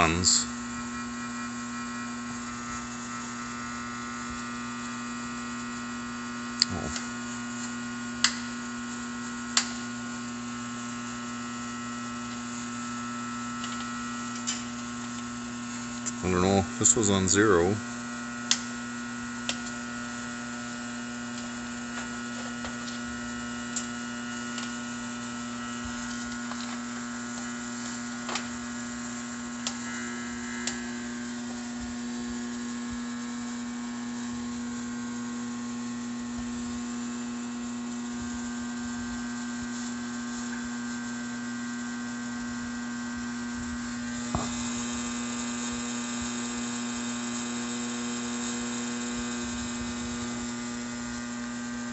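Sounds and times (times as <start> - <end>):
electrical hum and buzz: 0.0 - 51.9.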